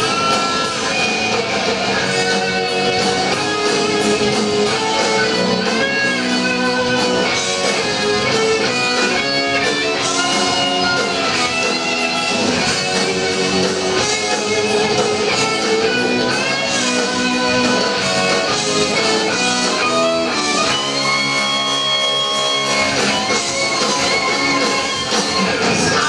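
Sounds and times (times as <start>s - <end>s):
distorted electric guitars: 0.0s - 26.0s
live heavy metal band: 0.0s - 26.0s.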